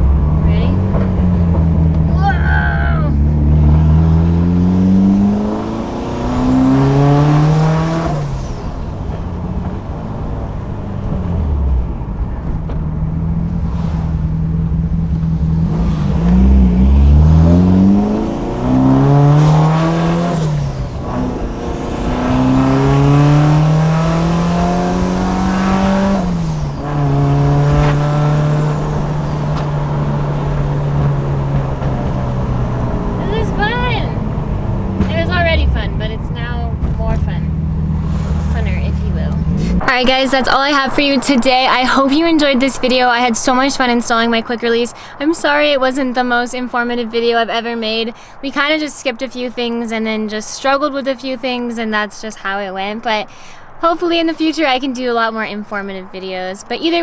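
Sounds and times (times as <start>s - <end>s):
car engine accelerating: 0.0s - 52.1s.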